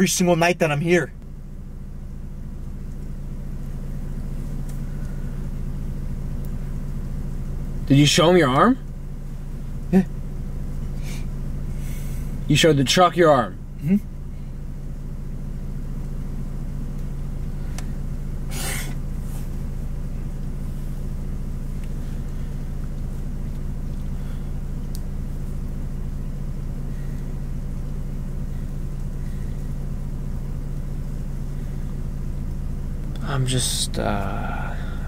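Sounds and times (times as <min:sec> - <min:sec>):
car engine hum and rumble: 0:00.0 - 0:35.0.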